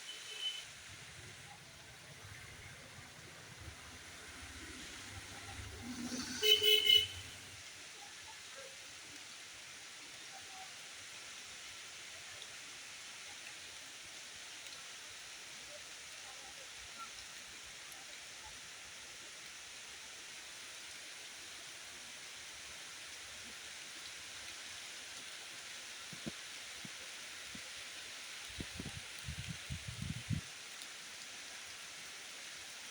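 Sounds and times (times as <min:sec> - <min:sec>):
outdoor background hiss: 0:00.0 - 0:32.9.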